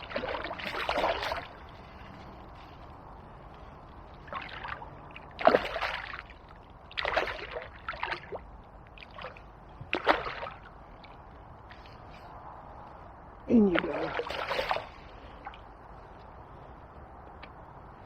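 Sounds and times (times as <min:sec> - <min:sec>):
water splashing and sloshing: 0:00.0 - 0:16.7.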